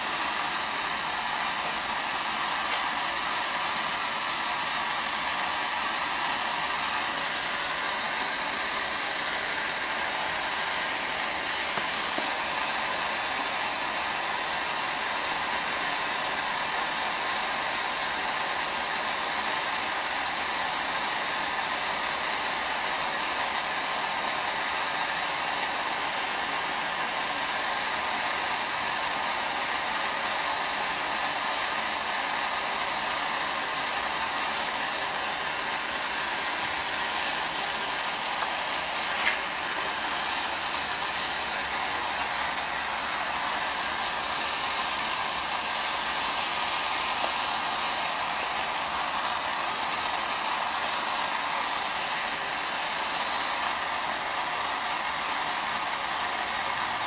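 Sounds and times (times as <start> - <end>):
electric fan rushing: 0.0 - 57.0.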